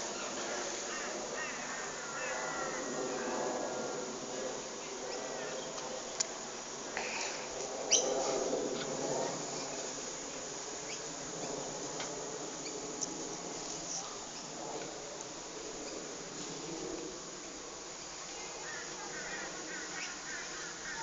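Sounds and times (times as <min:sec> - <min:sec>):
jet engines droning overhead: 0:00.0 - 0:21.0.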